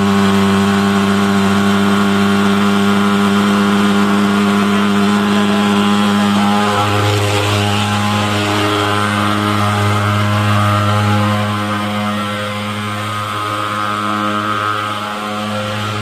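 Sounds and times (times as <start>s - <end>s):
pulse-jet engine droning: 0.0s - 16.0s.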